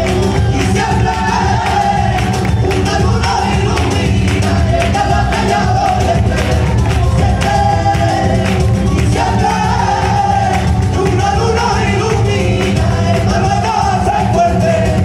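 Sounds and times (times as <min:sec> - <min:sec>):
person singing with ensemble: 0:00.0 - 0:15.0
rhythmic hand clapping: 0:00.0 - 0:15.0.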